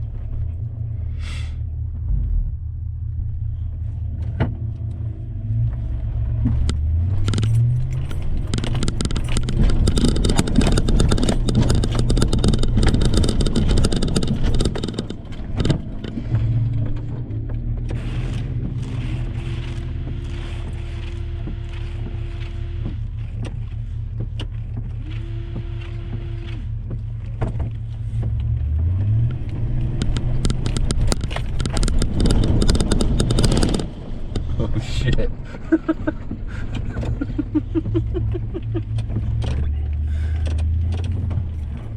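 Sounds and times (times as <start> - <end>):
body and tyres rattling: 0.0 - 41.9
truck engine revving: 0.0 - 41.9.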